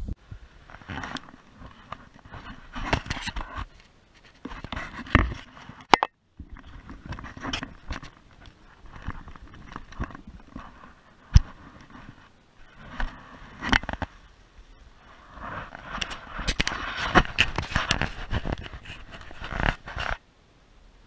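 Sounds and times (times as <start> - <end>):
clothing rubbing on microphone: 0.4 - 20.2.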